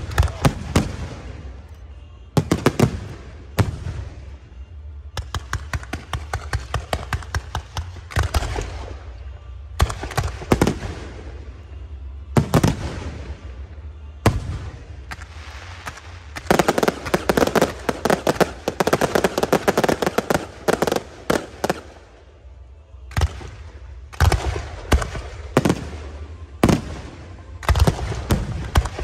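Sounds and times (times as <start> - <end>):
fireworks deep booms: 0.0 - 1.6, 2.3 - 4.5, 5.1 - 11.7, 12.3 - 22.0, 23.1 - 29.0
fireworks crackling bangs: 0.0 - 22.2, 23.0 - 29.0.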